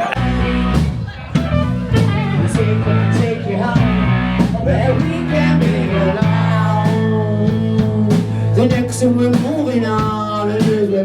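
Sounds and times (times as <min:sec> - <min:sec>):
bass guitar: 0:00.0 - 0:11.0
electric guitar: 0:00.0 - 0:11.0
person singing: 0:00.0 - 0:11.0
steady drum beat: 0:00.0 - 0:11.0.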